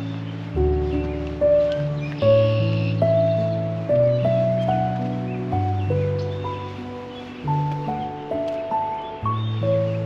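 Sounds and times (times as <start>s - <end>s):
gentle background music: 0.0s - 10.0s.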